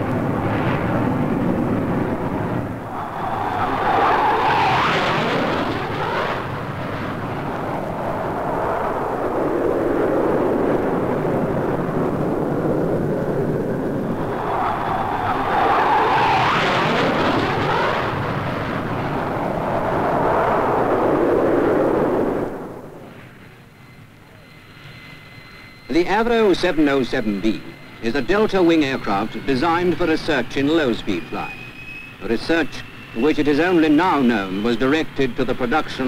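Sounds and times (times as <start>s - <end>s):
jet flying low past: 0.0s - 36.0s.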